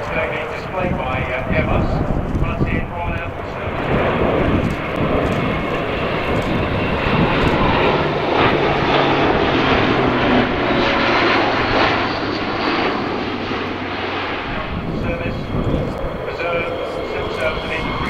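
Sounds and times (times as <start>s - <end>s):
turboprop aircraft flying past: 0.0s - 18.0s.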